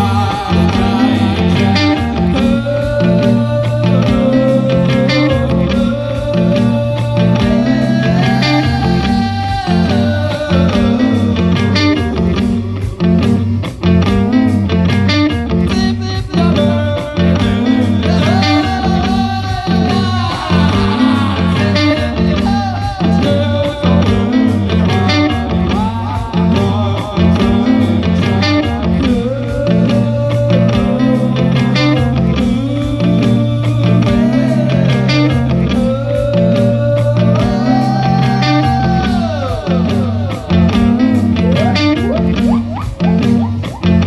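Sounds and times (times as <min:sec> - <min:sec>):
bass and drum beat: 0:00.0 - 0:44.0
electric guitar lead: 0:00.0 - 0:44.0.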